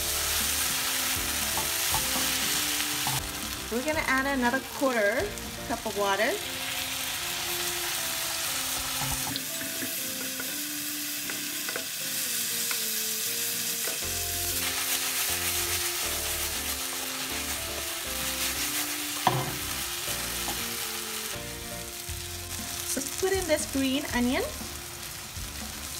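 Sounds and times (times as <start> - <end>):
food sizzling in frying pan: 0.0 - 25.9
light background music: 0.0 - 25.9.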